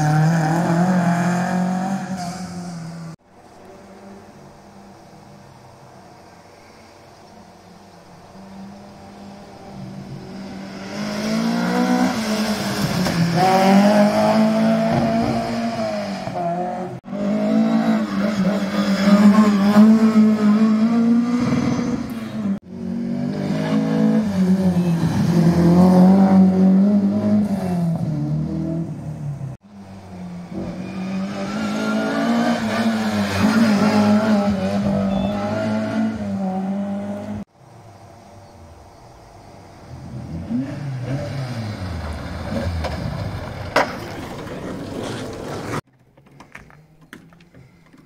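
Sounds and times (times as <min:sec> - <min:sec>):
rally car engines revving: 0:00.0 - 0:03.2, 0:08.2 - 0:37.5, 0:39.8 - 0:45.8.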